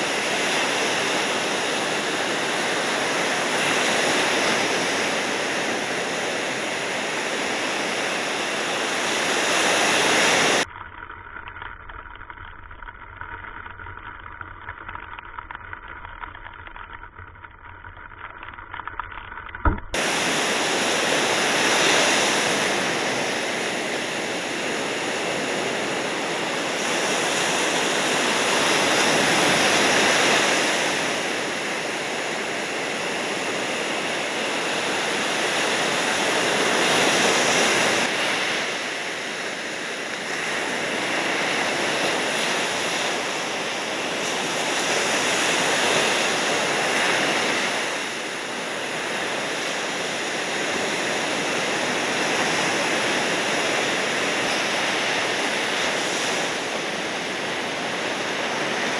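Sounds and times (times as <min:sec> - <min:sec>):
ocean waves breaking: 0:00.0 - 0:10.6, 0:19.6 - 0:58.9.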